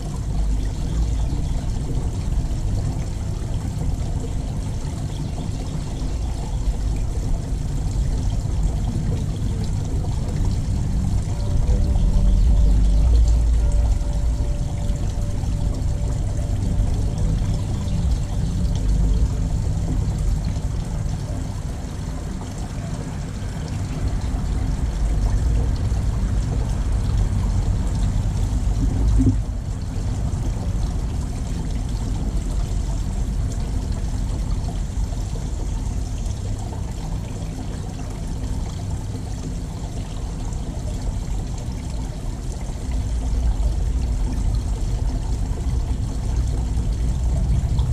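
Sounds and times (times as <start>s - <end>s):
running water: 0.0s - 47.9s.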